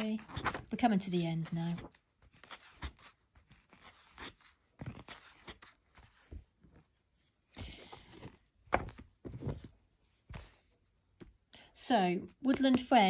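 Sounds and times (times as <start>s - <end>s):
pages turning: 0.0s - 0.7s, 1.3s - 11.4s.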